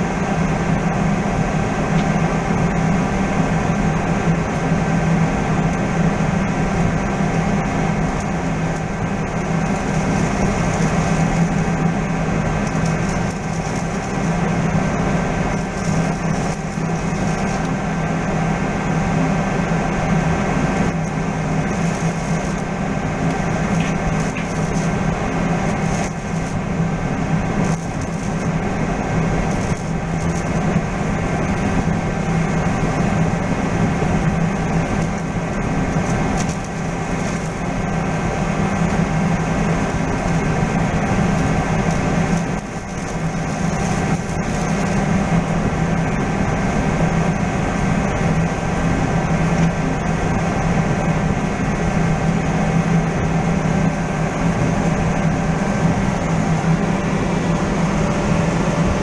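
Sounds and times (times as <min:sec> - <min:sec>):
arc welding crackle: 0:00.0 - 0:59.0
low machinery hum: 0:00.0 - 0:59.0.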